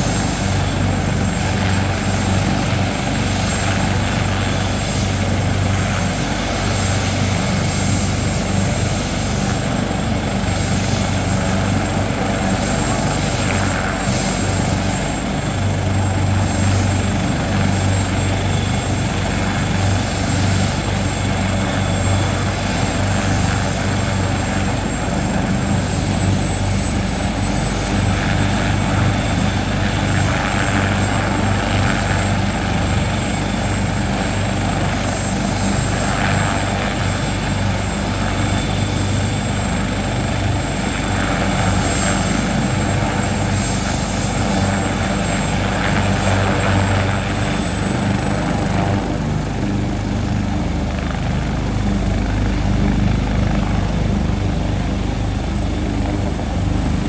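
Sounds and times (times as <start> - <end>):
helicopter rotor and engine drone: 0.0 - 57.0
high turbine whine: 0.0 - 57.0.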